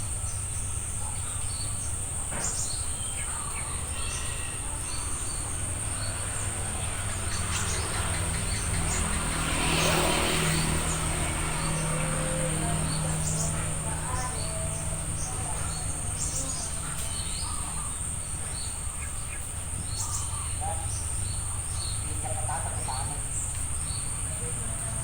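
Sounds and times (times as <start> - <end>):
insect drone: 0.0 - 25.0
low engine-like hum: 0.0 - 25.0.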